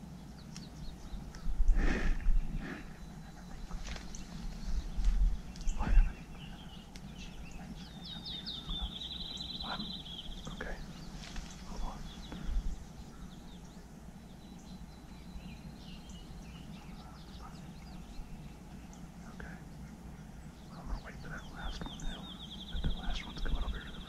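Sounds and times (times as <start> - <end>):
low rumbles on microphone: 0.0 - 13.9, 14.7 - 24.0
faint bird chirps: 0.0 - 24.0.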